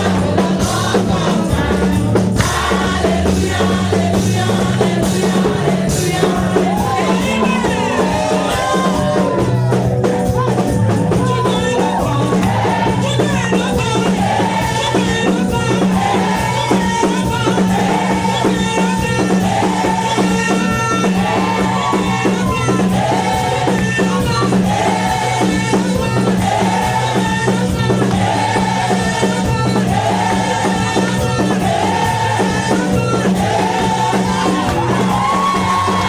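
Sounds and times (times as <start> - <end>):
choir singing: 0.0 - 9.6, 13.9 - 36.0
bass line: 0.0 - 36.0
shaker and tambourine rhythm: 0.0 - 36.0.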